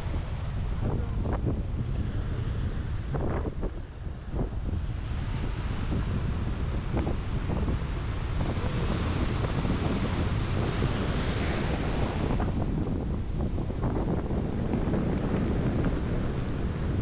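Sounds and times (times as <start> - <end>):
sea waves rushing: 0.0 - 17.0
wind buffeting microphone: 0.0 - 17.0.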